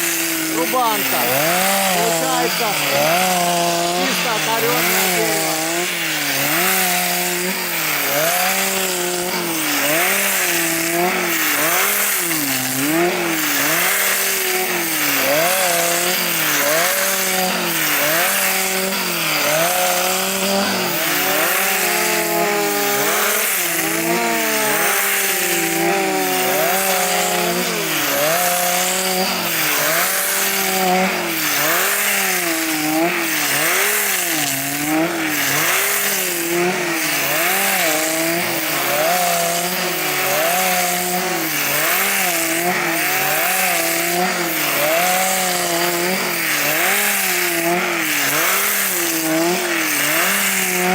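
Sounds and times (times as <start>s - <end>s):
chainsaw stripping bark from log: 0.0s - 50.9s.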